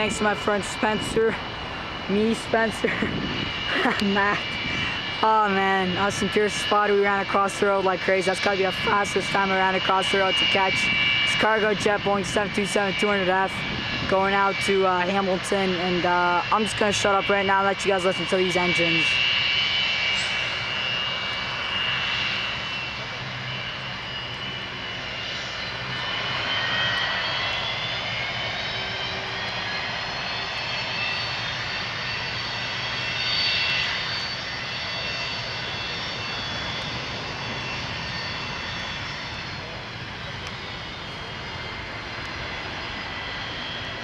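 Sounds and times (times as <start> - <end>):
jet engines running with whine: 0.0 - 44.0.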